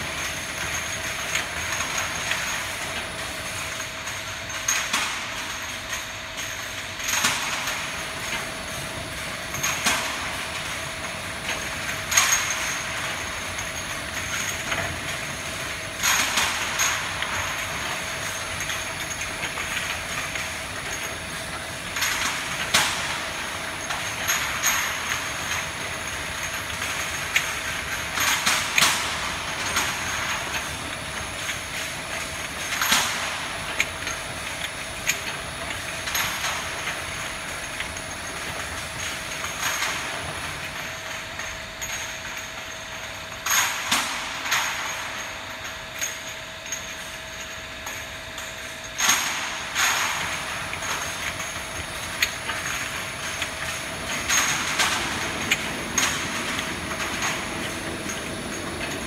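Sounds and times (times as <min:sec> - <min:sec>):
bottle washing machine humming: 0:00.0 - 0:43.7, 0:45.5 - 0:59.0.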